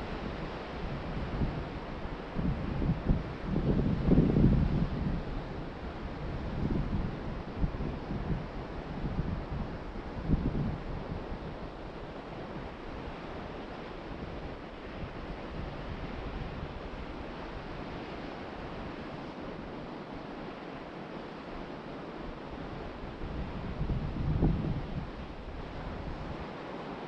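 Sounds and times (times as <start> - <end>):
wind buffeting microphone: 0.0 - 20.0, 22.3 - 26.7
ocean surf washing ashore: 0.0 - 27.0.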